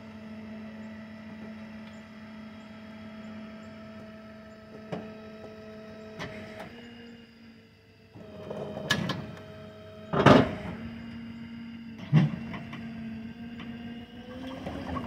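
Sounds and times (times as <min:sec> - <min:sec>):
hydraulic machinery hum: 0:00.0 - 0:15.0.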